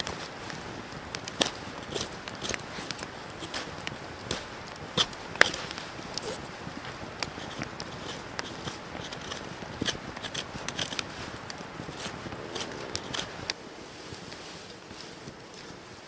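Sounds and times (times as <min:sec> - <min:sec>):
wood fire crackling and popping: 0:00.0 - 0:14.4.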